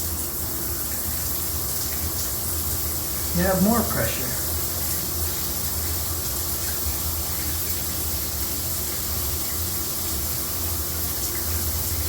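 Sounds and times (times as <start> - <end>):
shower water spraying and splashing: 0.0 - 12.0.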